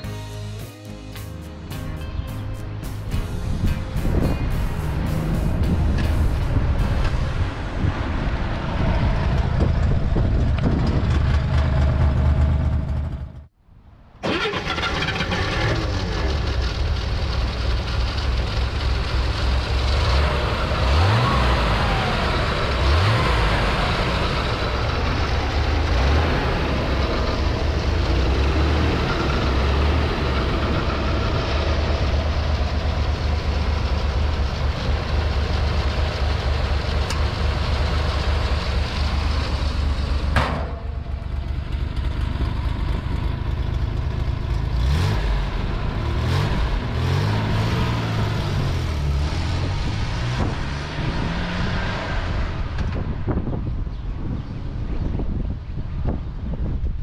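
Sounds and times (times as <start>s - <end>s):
car engine idling and revving: 3.0s - 13.6s, 14.2s - 57.0s.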